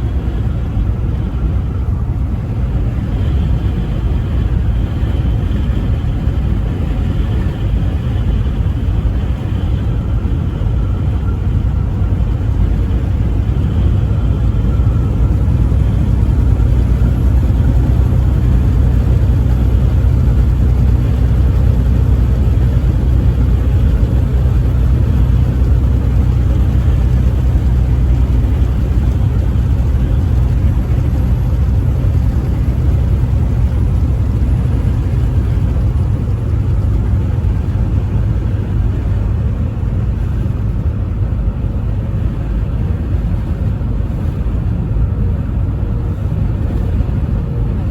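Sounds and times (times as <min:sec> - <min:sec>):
truck engine and road rumble: 0:00.0 - 0:47.9.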